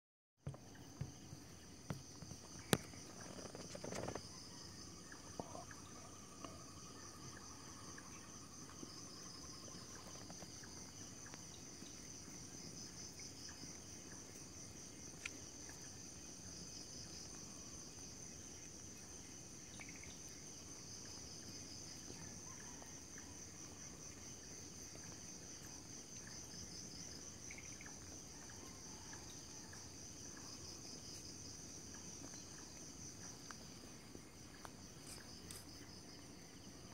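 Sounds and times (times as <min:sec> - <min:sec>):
crickets chirping: 0:00.4 - 0:36.9.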